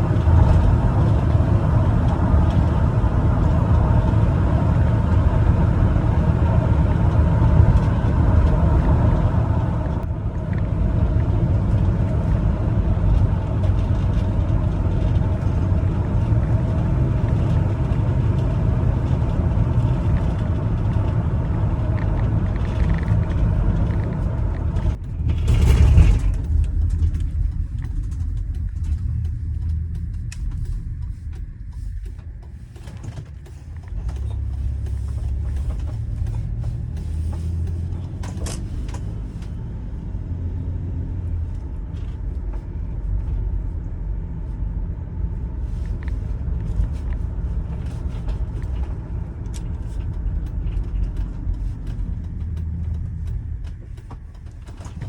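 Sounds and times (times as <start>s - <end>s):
engine and road noise: 0.0s - 55.0s.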